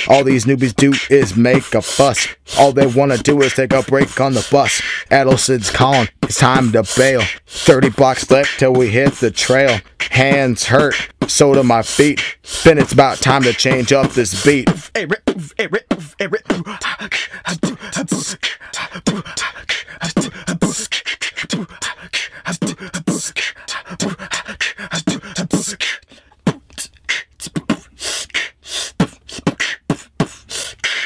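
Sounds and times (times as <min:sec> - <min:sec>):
beatboxing: 0:00.0 - 0:31.0.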